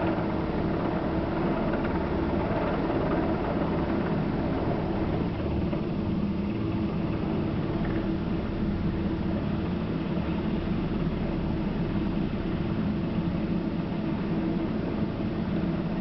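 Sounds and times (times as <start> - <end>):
helicopter hovering drone: 0.0 - 16.0.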